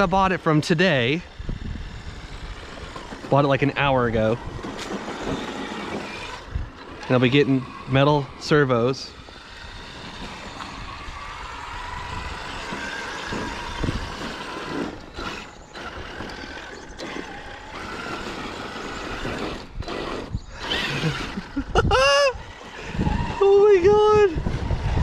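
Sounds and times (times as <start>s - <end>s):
electric motor whine: 0.0s - 25.0s
tyre and ground noise: 0.0s - 25.0s.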